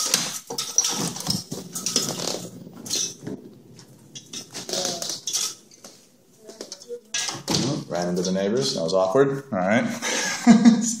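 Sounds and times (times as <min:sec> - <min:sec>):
window blind slats clattering: 0:00.0 - 0:08.9.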